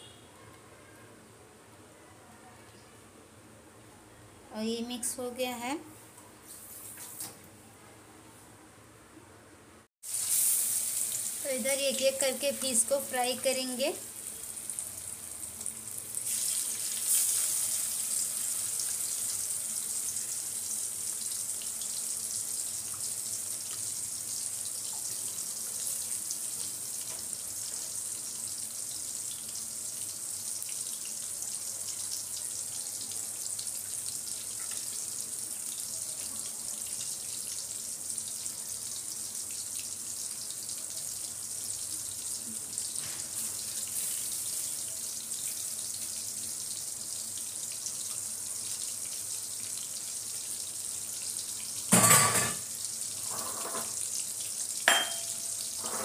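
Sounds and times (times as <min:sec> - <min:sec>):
fish sizzling in hot oil: 0:10.0 - 0:56.0.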